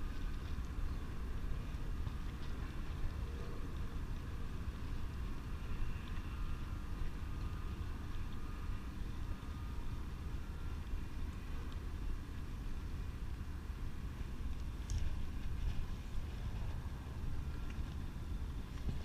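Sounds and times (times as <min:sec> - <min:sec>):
distant engine hum: 0:00.0 - 0:19.0
low outdoor rumble: 0:00.0 - 0:19.0.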